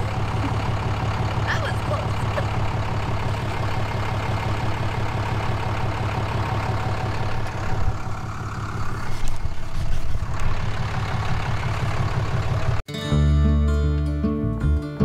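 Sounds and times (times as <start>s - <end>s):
truck engine idling: 0.0s - 12.8s.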